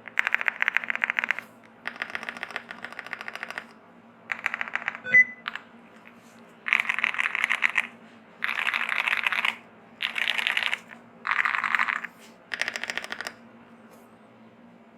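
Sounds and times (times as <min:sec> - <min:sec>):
fast typing on mechanical keyboard: 0:00.0 - 0:05.6, 0:06.6 - 0:13.4.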